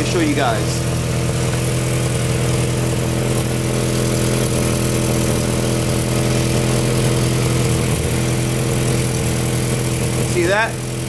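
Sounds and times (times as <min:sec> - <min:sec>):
car engine idling with exhaust leak: 0:00.0 - 0:11.0.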